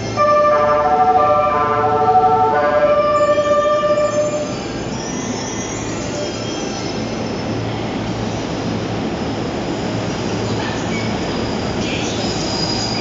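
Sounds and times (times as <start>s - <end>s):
train hum: 0.0s - 13.0s.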